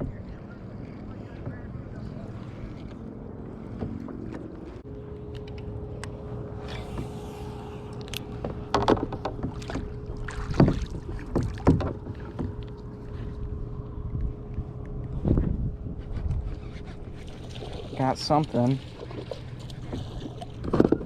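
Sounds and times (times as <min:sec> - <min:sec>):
steady hum: 0:00.0 - 0:18.1.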